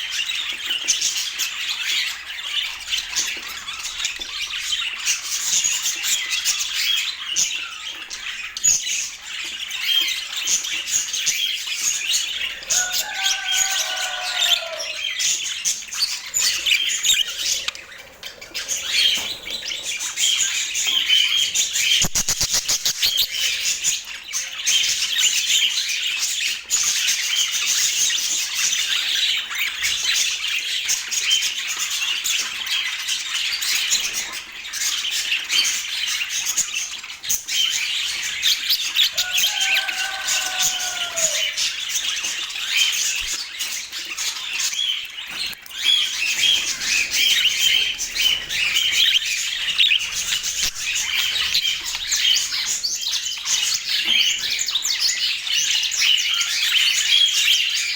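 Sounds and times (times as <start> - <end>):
budgerigars chattering: 0.1 - 57.9.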